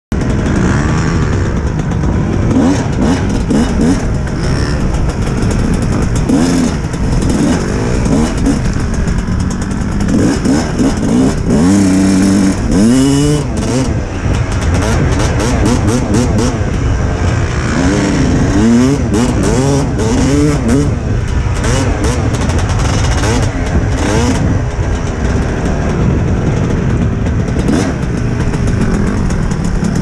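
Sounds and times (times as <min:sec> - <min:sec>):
dirt bike engine revving: 0:00.1 - 0:30.0.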